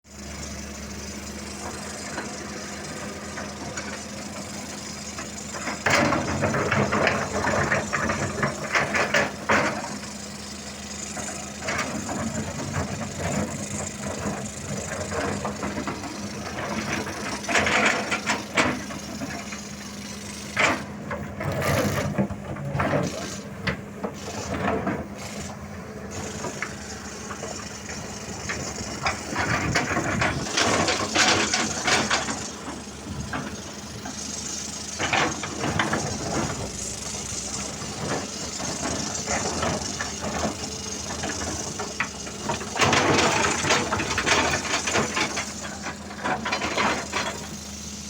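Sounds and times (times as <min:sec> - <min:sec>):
diesel engine running: 0:00.1 - 0:48.0
clanks and rattles: 0:01.6 - 0:10.1, 0:11.0 - 0:48.0.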